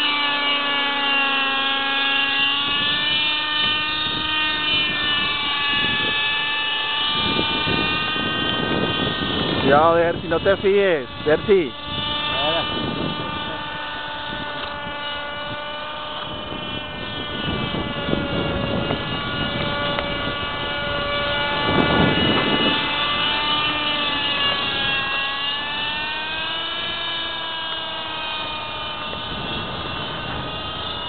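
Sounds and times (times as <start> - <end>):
model helicopter engine buzzing: 0.0 - 31.0.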